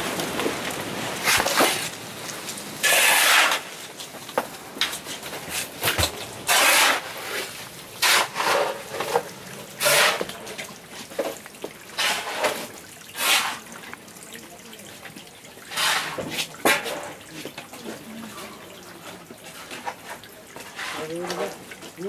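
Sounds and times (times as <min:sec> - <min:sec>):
floodwater splashing: 0:00.0 - 0:22.0.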